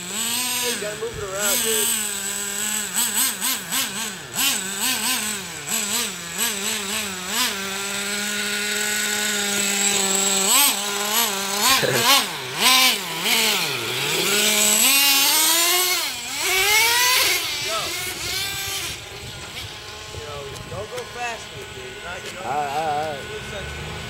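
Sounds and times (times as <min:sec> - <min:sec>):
small nitro engine buzzing: 0:00.0 - 0:24.0.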